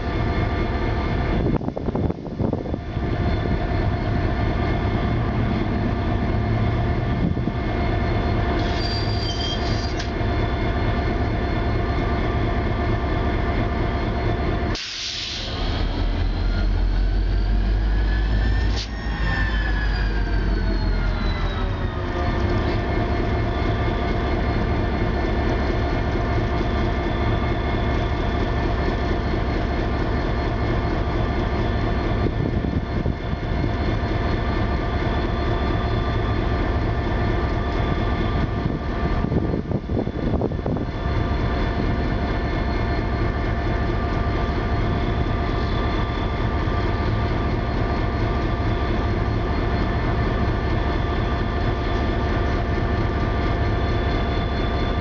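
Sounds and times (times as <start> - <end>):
diesel locomotive engine throbbing: 0.0 - 55.0.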